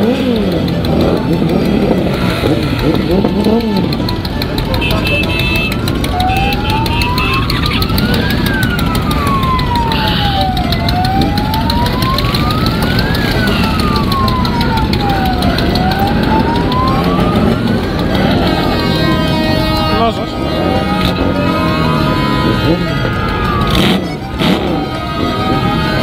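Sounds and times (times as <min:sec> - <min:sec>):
emergency vehicle siren wailing: 0:00.0 - 0:26.0
low road noise: 0:00.0 - 0:26.0.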